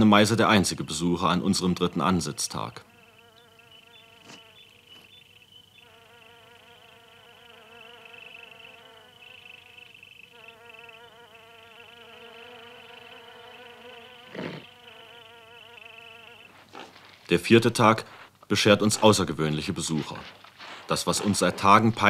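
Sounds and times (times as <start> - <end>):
insects buzzing: 0.0 - 22.0.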